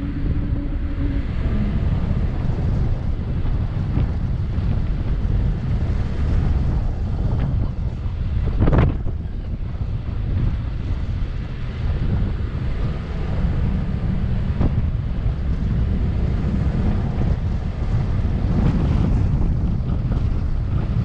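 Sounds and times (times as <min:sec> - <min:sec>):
car driving on sand: 0:00.0 - 0:21.0
wind buffeting microphone: 0:00.0 - 0:21.0.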